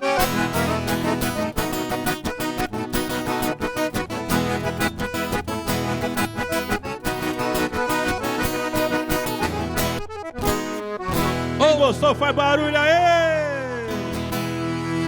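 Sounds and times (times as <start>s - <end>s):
accordion playing: 0.0s - 15.0s
strummed rhythm: 0.0s - 15.0s.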